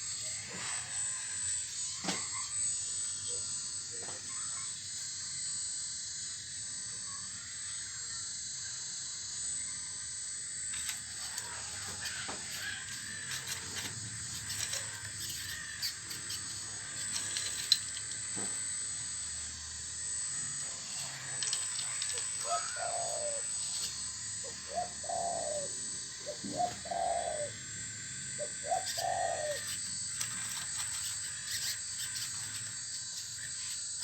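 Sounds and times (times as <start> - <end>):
rc excavator hiss and whine: 0.0 - 34.0.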